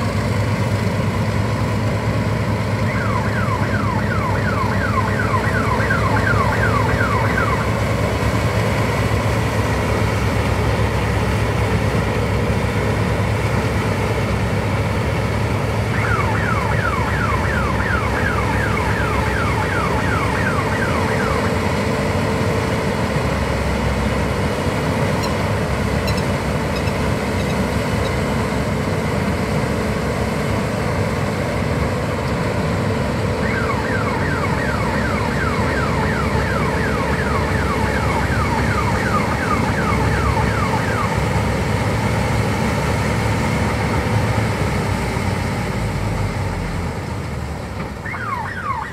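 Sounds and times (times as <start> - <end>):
combine harvester drone: 0.0 - 48.9.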